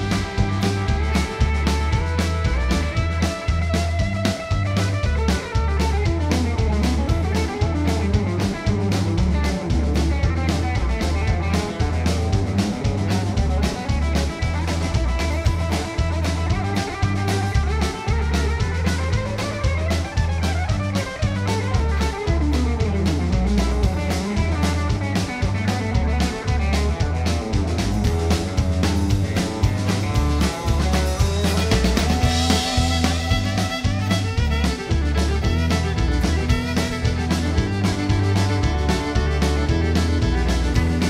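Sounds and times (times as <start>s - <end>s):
bass guitar: 0.0s - 41.0s
drum kit beat: 0.0s - 41.0s
electric guitar: 0.0s - 41.0s
fiddle: 0.0s - 41.0s.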